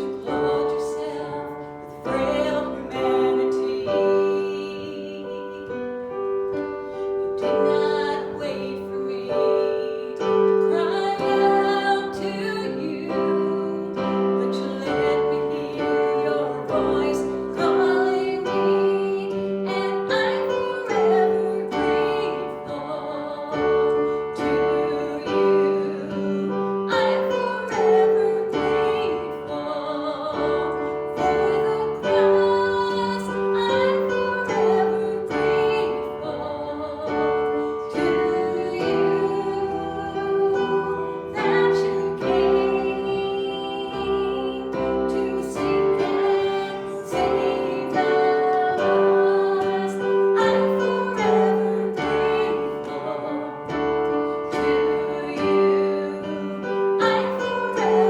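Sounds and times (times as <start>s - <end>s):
person singing worship song: 0.0s - 58.0s
piano accompaniment: 0.0s - 58.0s.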